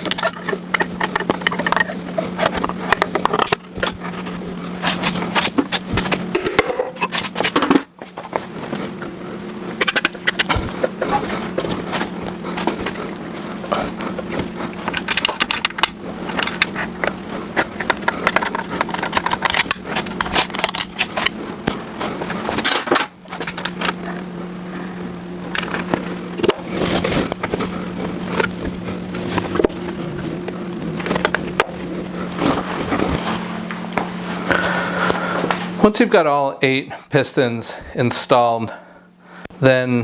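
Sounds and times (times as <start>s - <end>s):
hand tools clicking and scraping metal: 0.0s - 36.0s
steady low hum: 0.0s - 40.0s.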